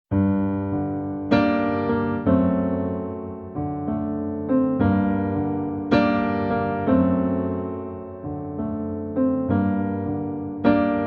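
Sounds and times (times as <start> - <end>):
sustained piano chords: 0.1 - 11.0.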